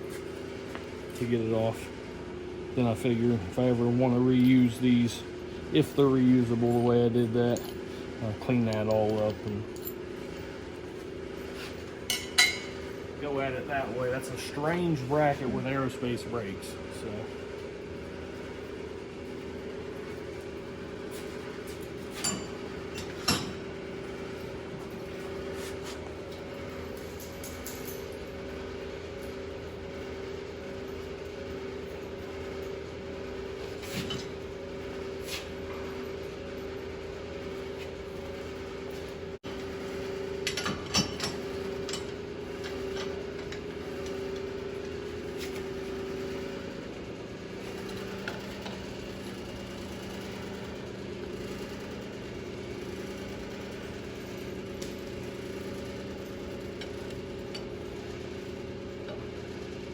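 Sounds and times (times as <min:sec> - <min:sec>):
shop machine humming: 0:00.0 - 0:59.9.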